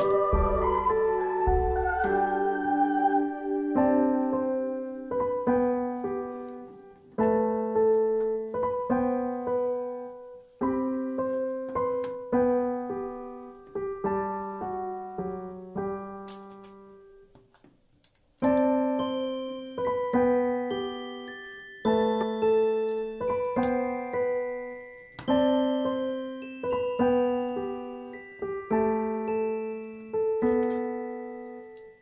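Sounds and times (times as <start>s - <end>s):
gentle piano melody: 0.0s - 17.5s, 18.4s - 32.0s.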